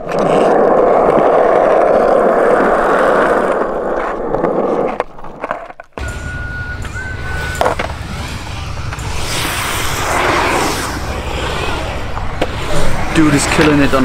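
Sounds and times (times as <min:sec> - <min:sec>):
skateboard wheels rolling on concrete: 0:00.0 - 0:14.0.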